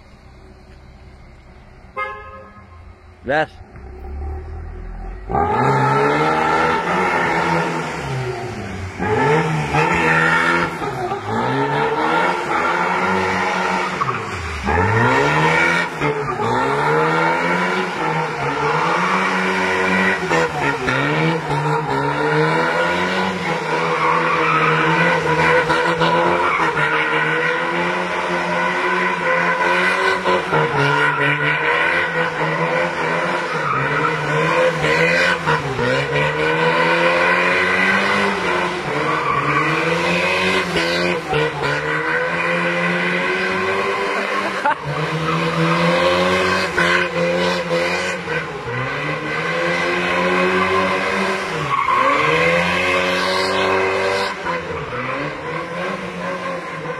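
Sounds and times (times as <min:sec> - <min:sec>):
car engine revving hard: 0:03.7 - 0:56.9.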